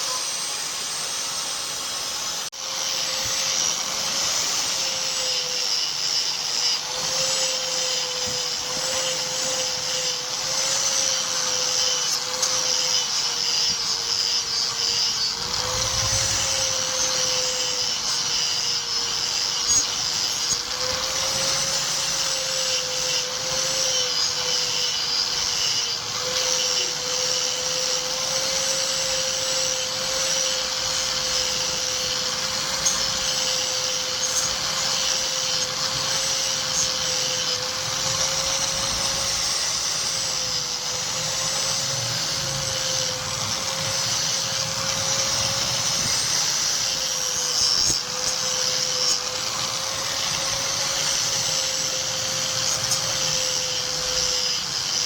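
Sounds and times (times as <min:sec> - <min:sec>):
power tool motor running: 0:00.0 - 0:55.0.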